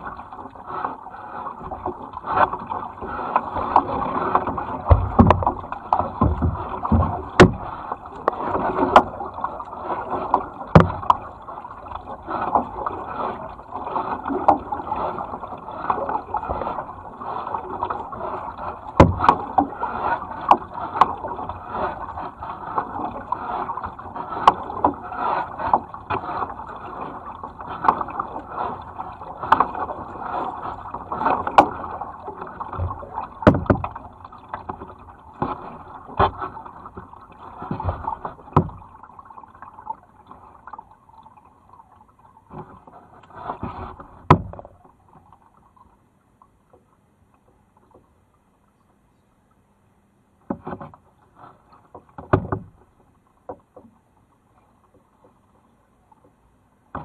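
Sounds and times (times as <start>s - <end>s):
paddle splashing water: 0.0s - 57.0s.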